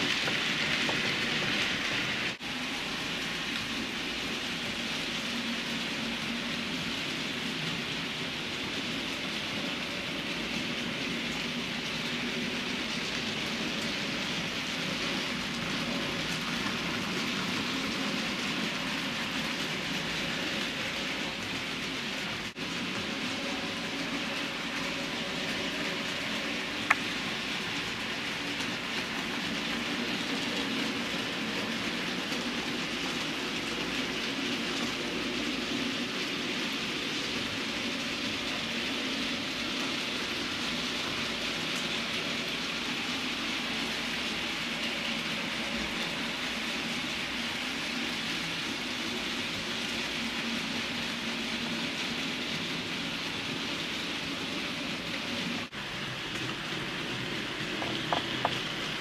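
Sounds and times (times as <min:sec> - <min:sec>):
model train running on track: 0:00.0 - 0:59.0.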